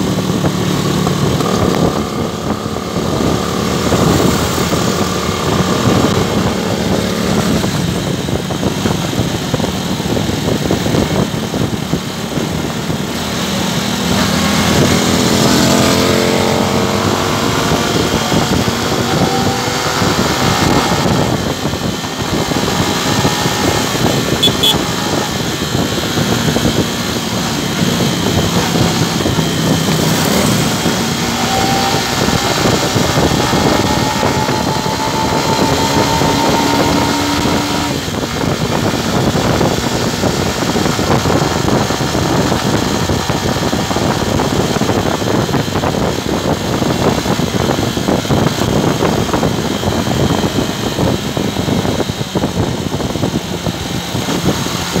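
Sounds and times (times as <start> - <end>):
motorcycle engine running: 0.0 - 55.0
traffic: 0.0 - 55.0
wind rushing over microphone: 0.0 - 55.0.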